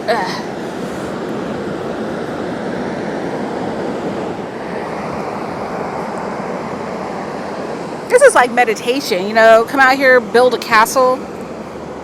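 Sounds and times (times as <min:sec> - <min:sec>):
ocean surf washing on beach: 0:00.0 - 0:12.0.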